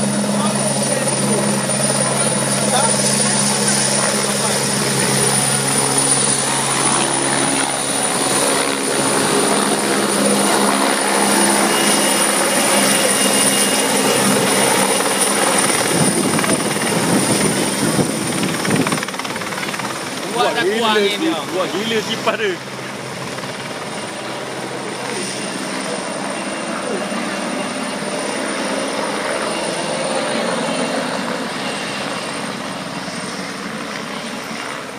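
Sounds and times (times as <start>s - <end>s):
helicopter flying past: 0.0s - 34.9s.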